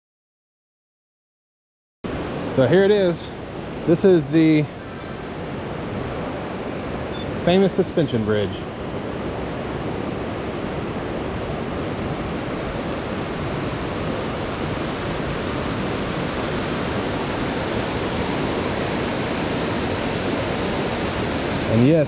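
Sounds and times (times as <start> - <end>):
river water roaring: 2.1 - 22.0.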